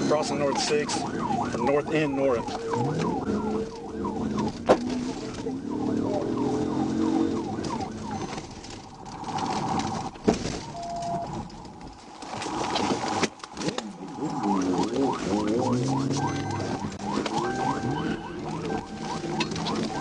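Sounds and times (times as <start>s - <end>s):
police siren yelp and warble: 0.0s - 11.5s, 13.8s - 20.0s.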